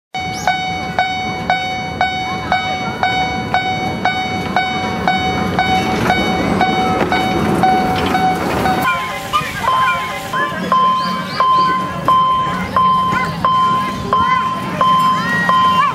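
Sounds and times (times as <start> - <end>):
railroad crossing warning bell: 0.2 - 15.9.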